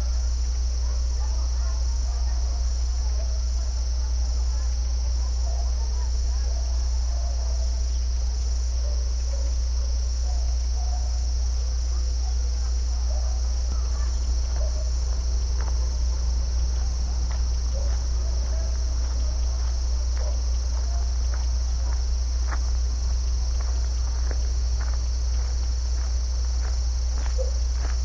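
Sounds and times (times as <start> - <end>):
constant low rumble: 0.0 - 28.0
insects chirping chorus: 0.0 - 28.0.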